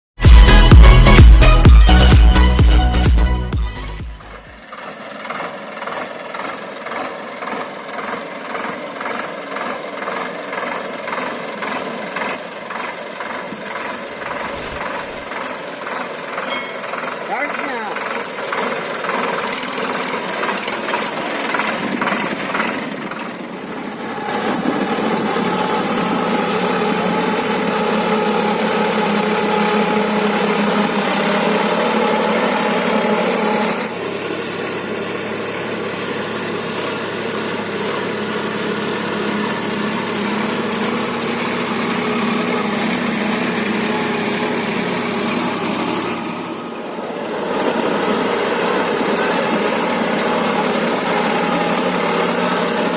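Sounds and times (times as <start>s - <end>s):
tractor diesel engine running: 0.2s - 52.9s.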